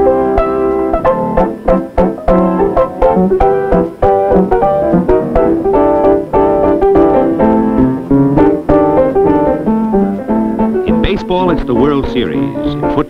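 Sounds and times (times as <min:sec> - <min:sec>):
lively piano soundtrack music: 0:00.0 - 0:13.0.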